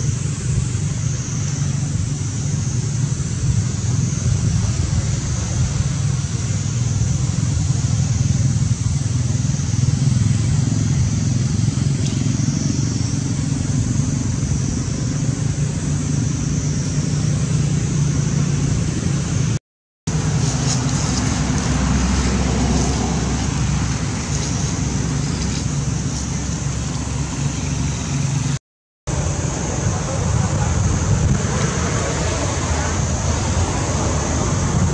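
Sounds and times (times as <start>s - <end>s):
high hum: 0.0s - 34.9s
low outdoor rumble: 0.0s - 34.9s.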